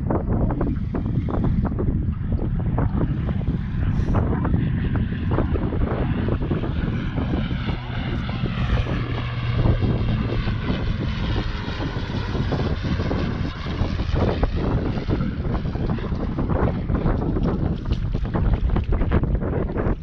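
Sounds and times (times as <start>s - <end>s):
passing motor drone: 0.0s - 20.0s
wind buffeting microphone: 0.0s - 20.0s.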